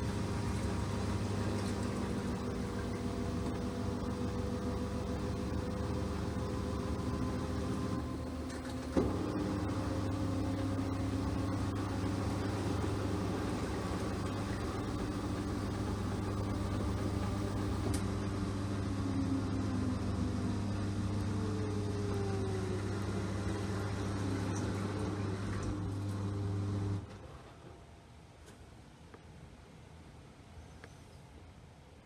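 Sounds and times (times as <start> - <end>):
washing machine running: 0.0 - 27.1.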